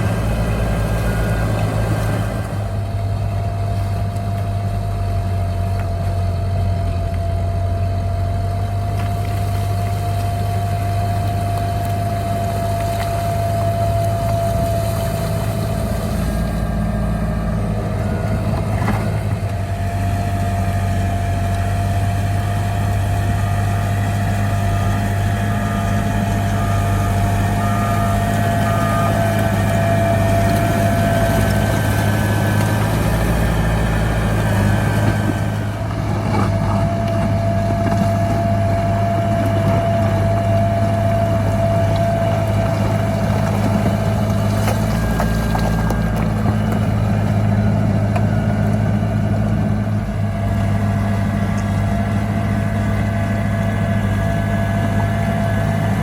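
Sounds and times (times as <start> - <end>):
bulldozer diesel engine drone: 0.0 - 56.0.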